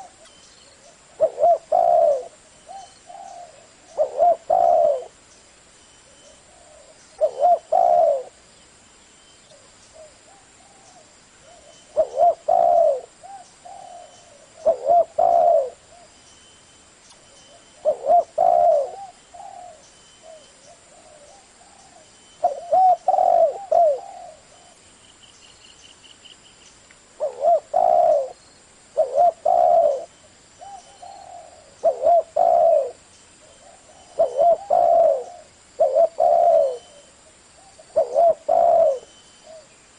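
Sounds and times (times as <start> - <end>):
dove cooing: 0.0 - 5.2, 6.1 - 8.4, 9.5 - 16.1, 17.5 - 24.8, 27.2 - 28.4, 29.0 - 39.7.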